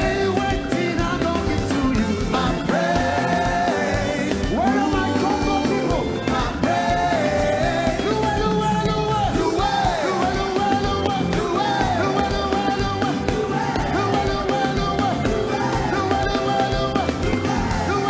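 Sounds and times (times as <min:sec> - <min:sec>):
band playing steady beat: 0:00.0 - 0:18.0
singers holding long notes: 0:00.0 - 0:18.0.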